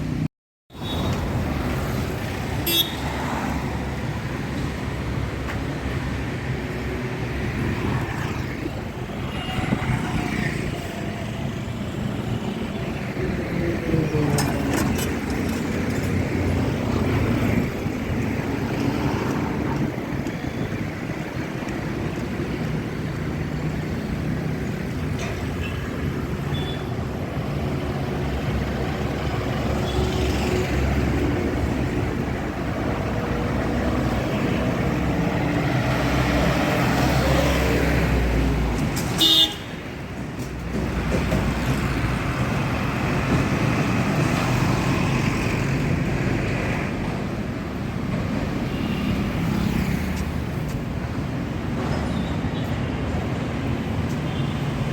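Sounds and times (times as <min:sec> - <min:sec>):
road traffic passing: 0:00.0 - 0:54.9.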